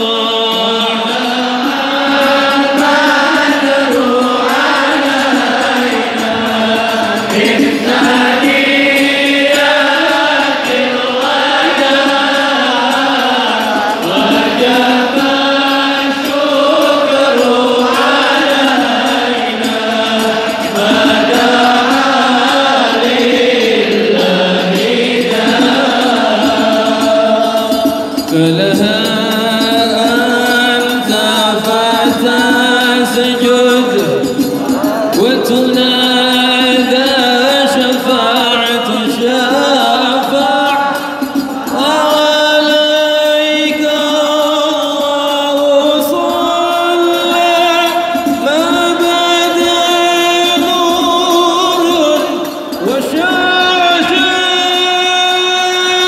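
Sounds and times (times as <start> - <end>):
crowd singing devotional chants: 0.0 - 56.0.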